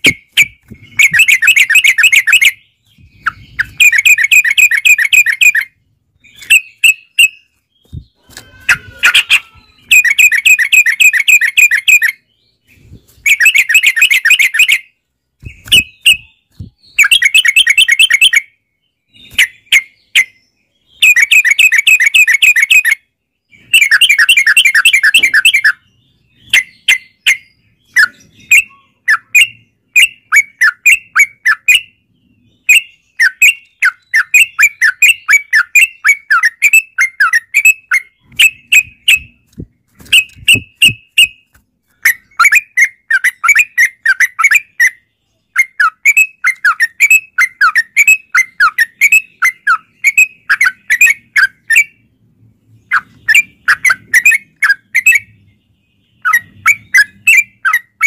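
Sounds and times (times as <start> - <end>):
single bird chirps: 0.0 - 52.1, 52.7 - 58.0.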